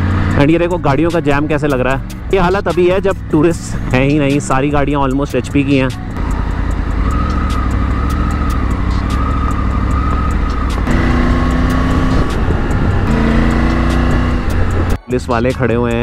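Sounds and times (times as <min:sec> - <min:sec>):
motorcycle engine running: 0:00.0 - 0:15.0
background music: 0:00.0 - 0:16.0.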